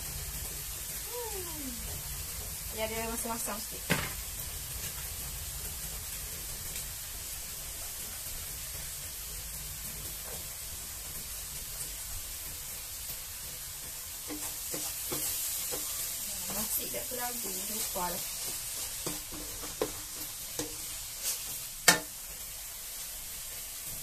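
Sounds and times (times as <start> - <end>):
rice sizzling in a wok: 0.0 - 24.0.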